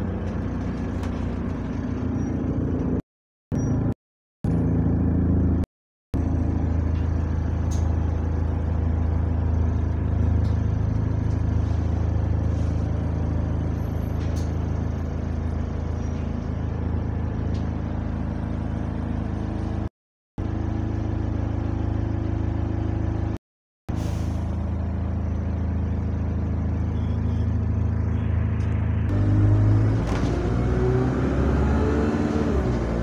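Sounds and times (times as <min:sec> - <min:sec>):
bus diesel engine: 0:00.0 - 0:33.0.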